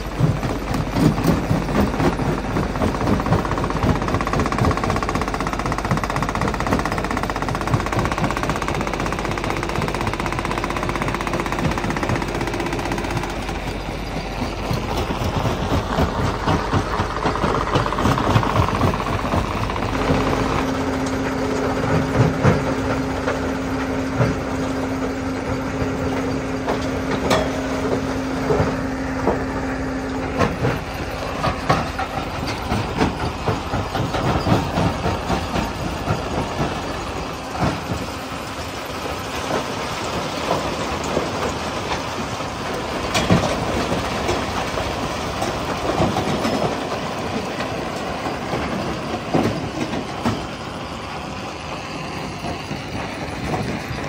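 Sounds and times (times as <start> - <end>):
engine running: 0.0 - 54.0
rock clattering in crusher: 0.1 - 38.2, 39.2 - 50.5.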